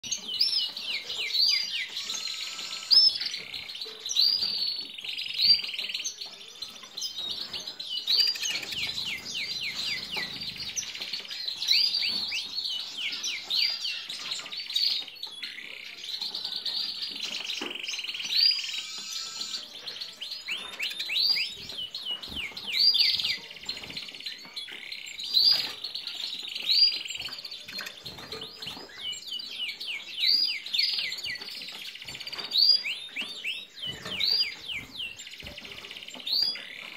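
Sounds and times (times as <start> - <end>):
caged birds singing: 0.0 - 36.9.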